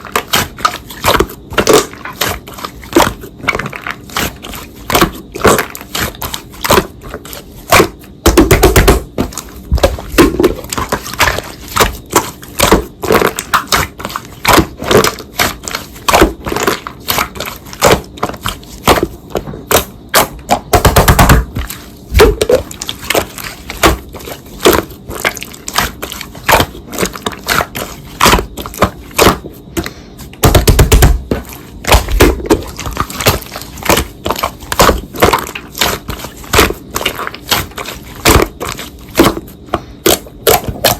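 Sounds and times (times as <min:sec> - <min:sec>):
slime squishing with sticky pops: 0:00.0 - 0:40.9.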